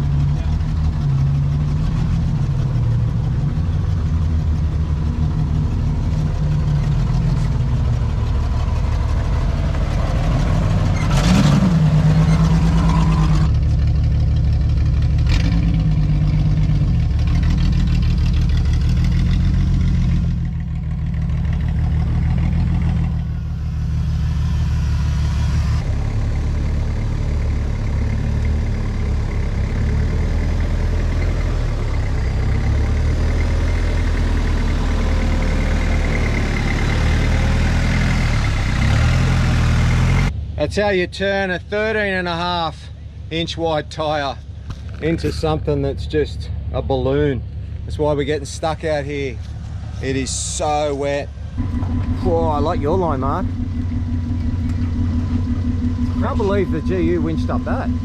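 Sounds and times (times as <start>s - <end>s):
vehicle engine at low revs: 0.0s - 58.0s.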